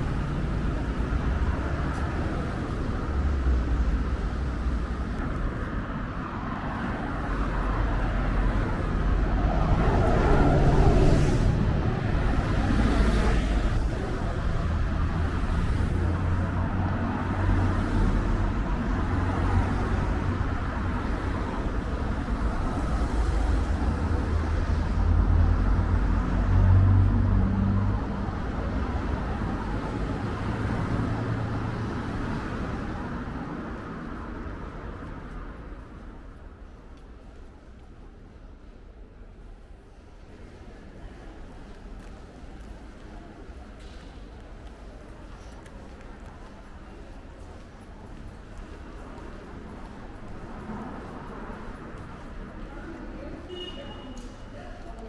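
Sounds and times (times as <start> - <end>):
city street traffic rumble: 0.0 - 55.0.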